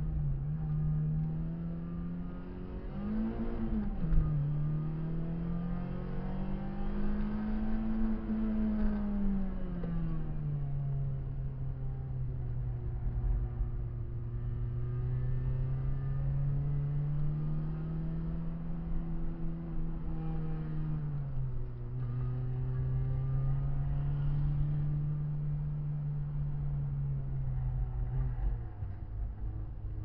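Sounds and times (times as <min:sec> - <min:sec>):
road rumble: 0:00.0 - 0:30.0.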